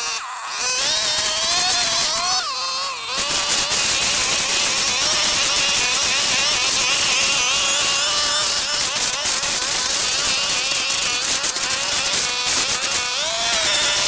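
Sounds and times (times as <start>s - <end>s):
brush cutter engine high revs: 0.0s - 14.0s.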